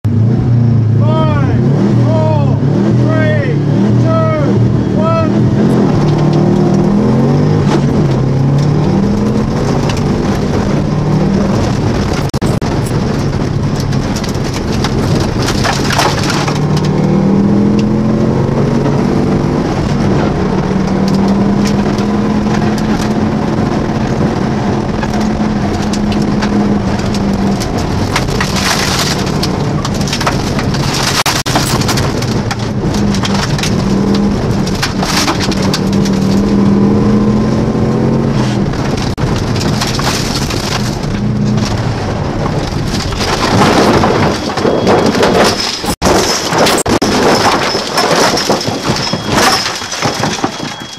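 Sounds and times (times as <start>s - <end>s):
rally car engine revving: 0.0s - 50.9s
road and stone rattle: 0.0s - 50.9s
sharp clattering impacts: 5.4s - 36.8s, 38.3s - 50.9s.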